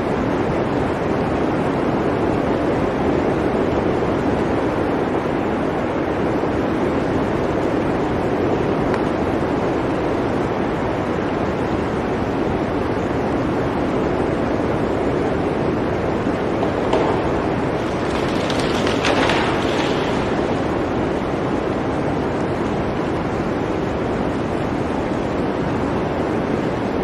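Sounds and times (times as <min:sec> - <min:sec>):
blizzard wind rushing: 0:00.0 - 0:27.0.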